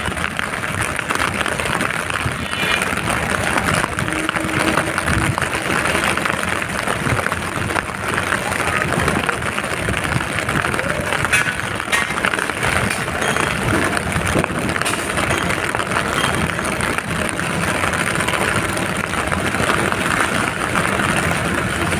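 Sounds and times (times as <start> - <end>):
rain: 0.0 - 21.9
vehicle engine running: 0.0 - 21.9.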